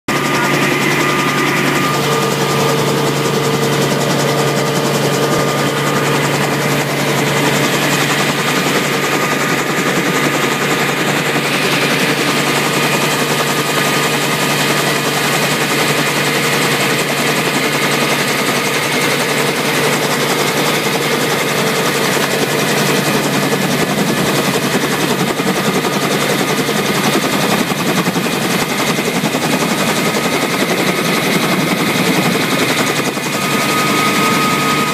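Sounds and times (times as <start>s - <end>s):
helicopter engine and rotor: 0.1s - 34.9s.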